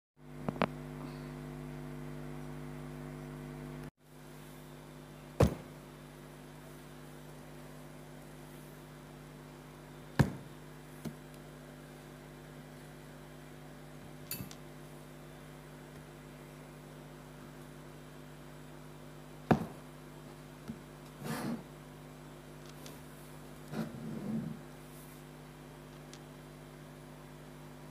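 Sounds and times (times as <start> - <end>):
electrical mains hum: 0.2 - 27.9.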